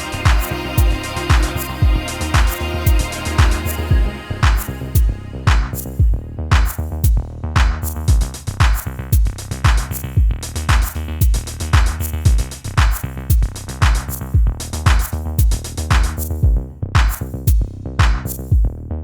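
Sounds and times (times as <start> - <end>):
electronic music with heavy bass: 0.0 - 18.7.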